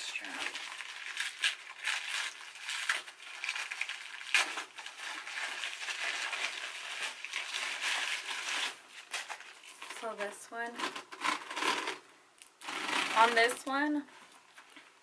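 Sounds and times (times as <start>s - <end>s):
wrapping crinkling and rustling: 0.0s - 15.0s.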